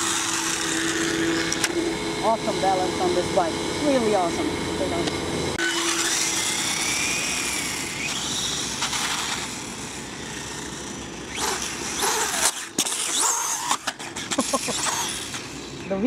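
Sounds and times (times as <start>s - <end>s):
electric motor whining: 0.0s - 16.0s
tyre and outdoor noise: 0.0s - 16.0s.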